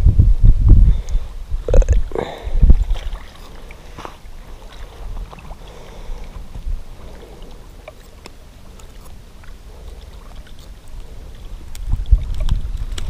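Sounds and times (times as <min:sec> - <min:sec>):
wind buffeting microphone: 0:00.0 - 0:07.7, 0:08.4 - 0:13.0.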